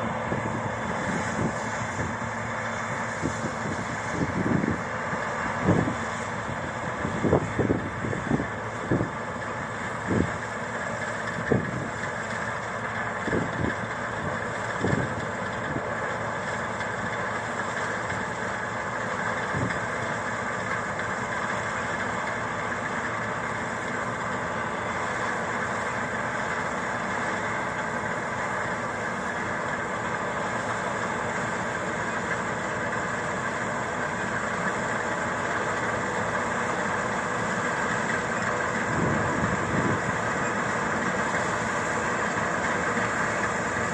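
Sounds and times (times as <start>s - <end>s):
combine harvester droning: 0.0s - 43.9s.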